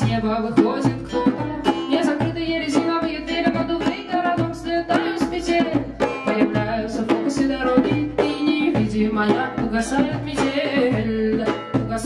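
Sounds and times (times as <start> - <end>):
acoustic guitar: 0.0 - 12.0
hand percussion beat: 0.0 - 12.0.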